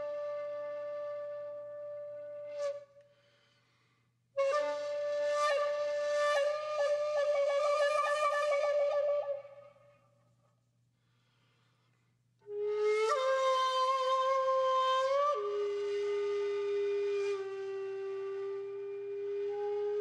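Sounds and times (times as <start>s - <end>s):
flute-like wind instrument: 0.0s - 3.1s, 4.4s - 10.1s, 12.4s - 20.0s.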